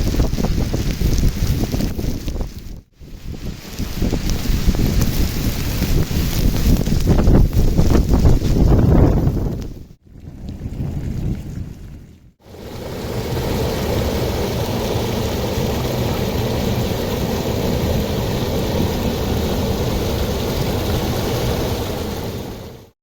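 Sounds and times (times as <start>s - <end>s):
heavy rain: 0.0s - 9.5s, 12.4s - 22.9s
wind buffeting microphone: 0.0s - 22.8s.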